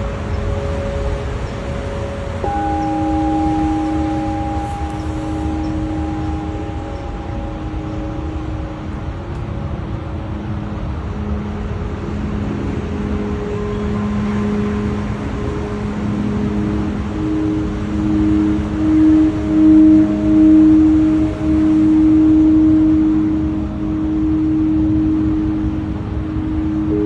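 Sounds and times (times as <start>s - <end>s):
singing bowls ringing: 0.0s - 27.0s.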